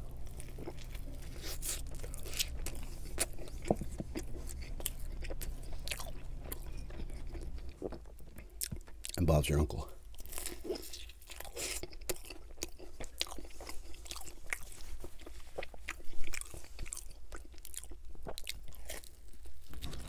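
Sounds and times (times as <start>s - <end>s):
crunchy chewing of pizza crust: 0.0s - 20.0s.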